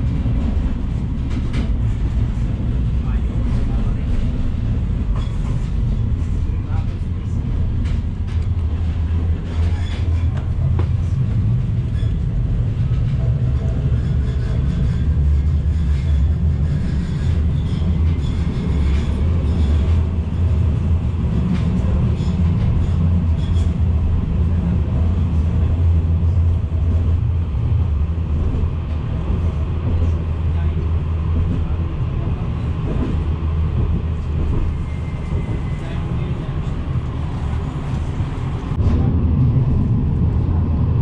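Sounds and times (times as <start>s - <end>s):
tram ride rumble: 0.0s - 41.0s.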